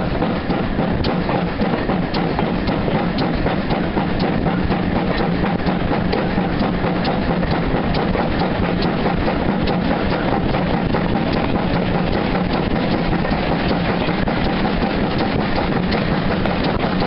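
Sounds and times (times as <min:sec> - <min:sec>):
steam locomotive exhaust beats: 0:00.0 - 0:17.0.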